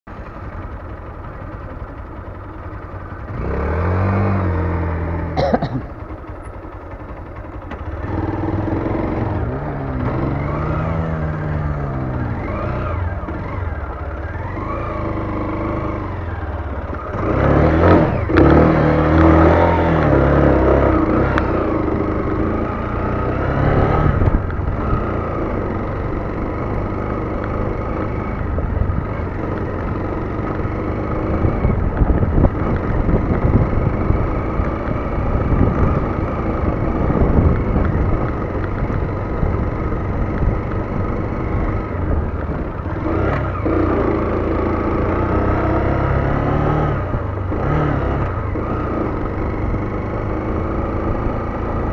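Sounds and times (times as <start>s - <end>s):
motorcycle engine revving: 0.1s - 51.9s.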